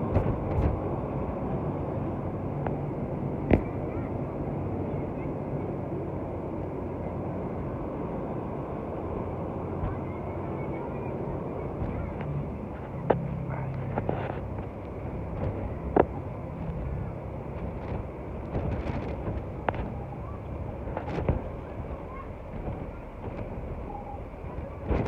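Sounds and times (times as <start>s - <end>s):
boat engine hum: 0.0s - 25.0s
rush of wind and water: 0.0s - 25.0s
wind buffeting microphone: 0.0s - 25.0s.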